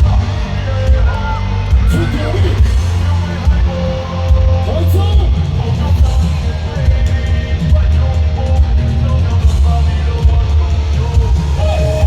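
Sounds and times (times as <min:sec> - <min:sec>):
bass: 0:00.0 - 0:12.0
electric guitar: 0:00.0 - 0:12.0
live heavy rock music: 0:00.0 - 0:12.0
pounding drums: 0:00.0 - 0:12.0.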